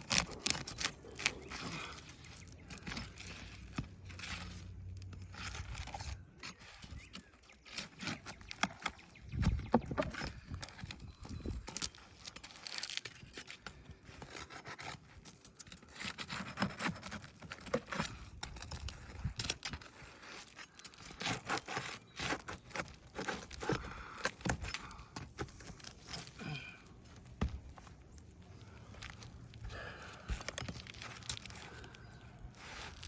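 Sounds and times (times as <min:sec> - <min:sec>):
scraping and shuffling on roof: 0:00.0 - 0:33.0.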